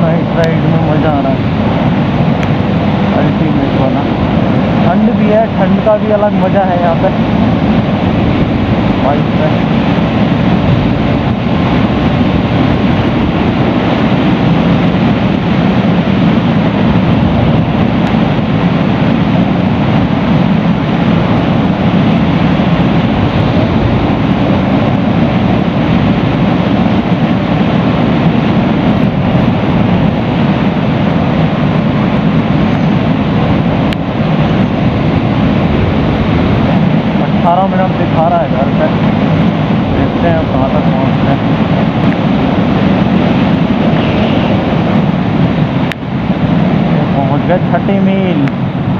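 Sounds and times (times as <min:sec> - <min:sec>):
motorcycle engine running: 0:00.0 - 0:48.4
wind rushing over microphone: 0:00.0 - 0:48.9.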